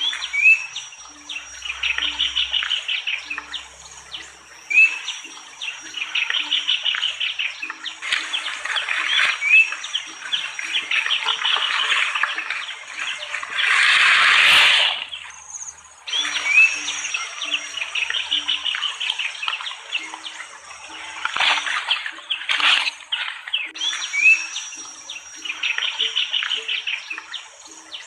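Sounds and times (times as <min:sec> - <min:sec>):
high insect-like drone: 0:00.0 - 0:23.0
birds chirping: 0:00.0 - 0:28.0.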